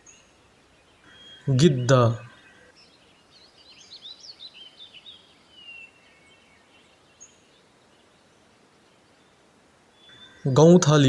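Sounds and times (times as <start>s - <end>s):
faint songbird chirping: 0.0s - 11.0s.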